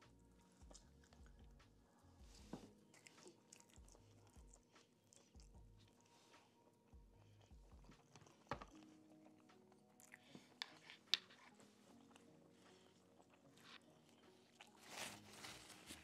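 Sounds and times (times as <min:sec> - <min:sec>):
chewing noodles: 0:00.1 - 0:16.0.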